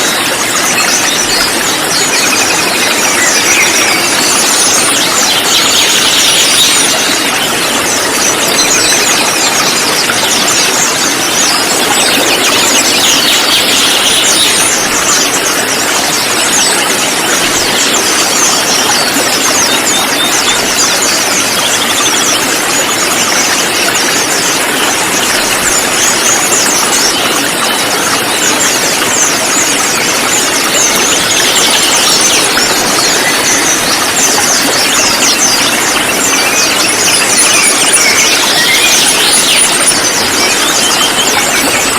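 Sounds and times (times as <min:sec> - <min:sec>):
birds chattering and chirping: 0:00.0 - 0:41.9.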